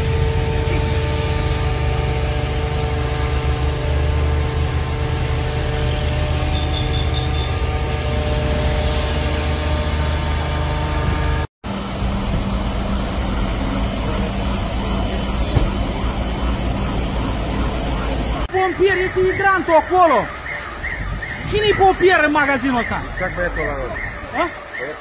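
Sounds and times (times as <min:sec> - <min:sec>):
vehicle engines idling: 0:00.0 - 0:25.0.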